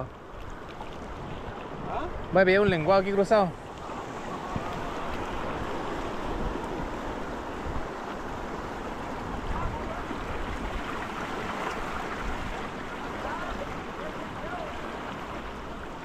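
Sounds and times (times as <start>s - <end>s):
wind on microphone: 0.0s - 13.9s
surf washing against rocks: 0.0s - 16.0s.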